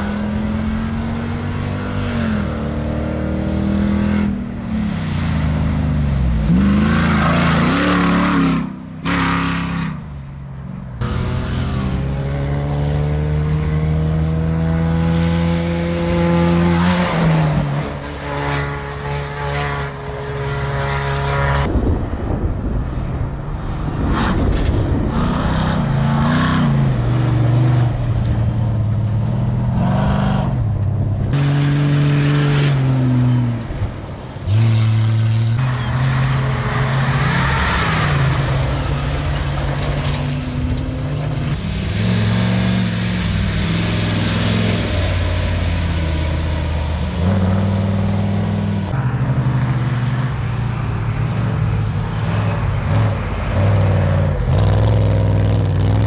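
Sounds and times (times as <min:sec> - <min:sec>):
race vehicle engines revving: 0:00.0 - 0:21.7, 0:23.5 - 0:56.0.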